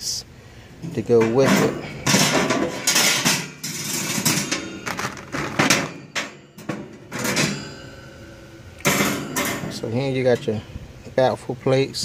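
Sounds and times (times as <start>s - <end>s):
metal grates clanking: 0.8s - 10.6s.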